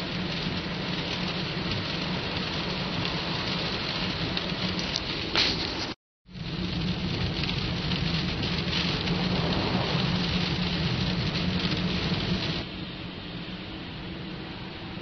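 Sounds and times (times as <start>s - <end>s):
heavy rain on car: 0.0s - 15.0s.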